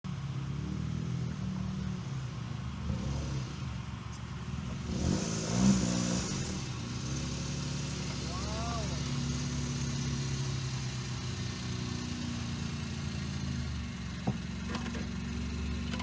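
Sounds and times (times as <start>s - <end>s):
car engine running: 0.1s - 16.0s.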